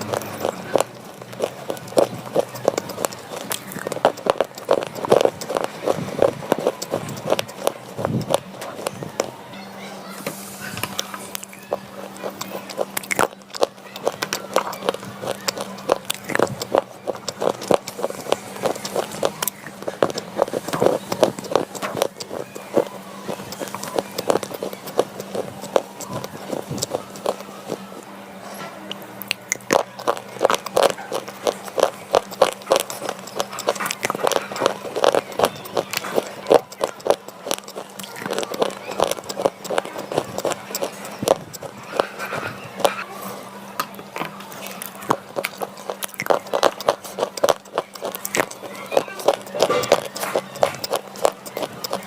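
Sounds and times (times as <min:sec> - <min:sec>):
pencil being chewed crunching: 0:00.0 - 0:09.4, 0:10.8 - 0:28.0, 0:28.9 - 0:43.0, 0:43.8 - 0:52.0
faint steady hum: 0:00.0 - 0:52.0.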